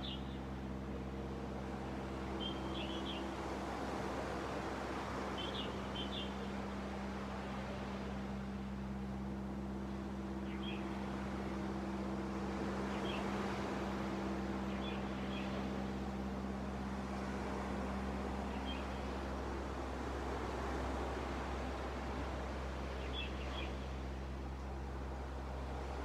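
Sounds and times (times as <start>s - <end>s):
low hum: 0.0s - 26.0s
sea waves washing on beach: 0.0s - 26.0s.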